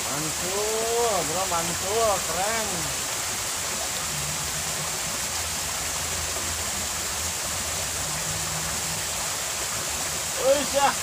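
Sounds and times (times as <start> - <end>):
stream rushing over stones: 0.0 - 11.0.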